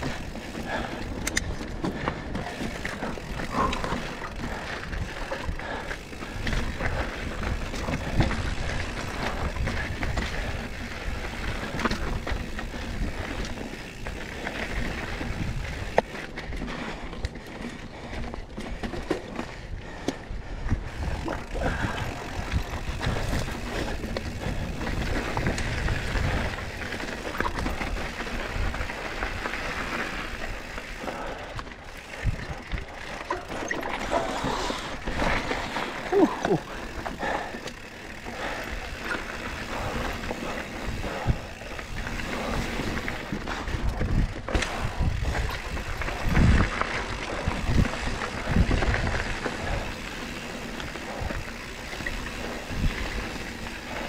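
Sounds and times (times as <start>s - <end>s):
bike knocking and rattling: 0.0s - 54.0s
bike tyres on dirt trail: 0.0s - 54.0s.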